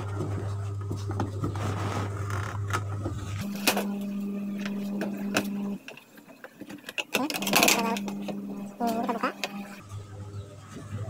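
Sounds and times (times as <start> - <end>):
motor-like hum: 0.0 - 11.0.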